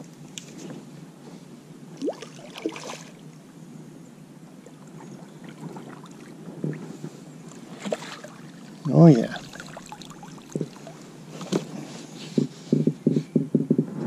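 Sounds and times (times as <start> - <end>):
water lapping against kayak: 0.0 - 3.8, 4.5 - 12.8.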